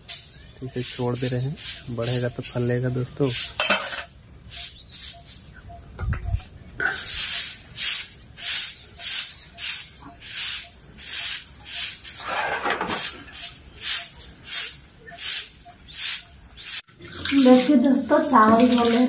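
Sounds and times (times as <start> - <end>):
broom sweeping earth: 0.0 - 5.6, 6.4 - 19.0.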